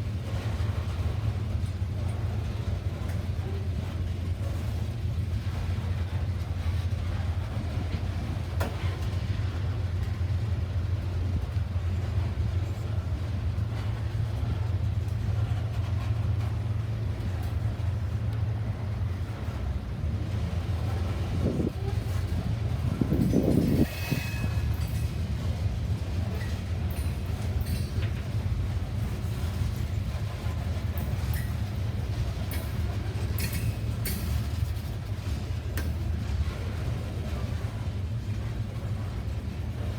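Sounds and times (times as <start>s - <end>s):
train rumbling past: 0.0s - 39.9s.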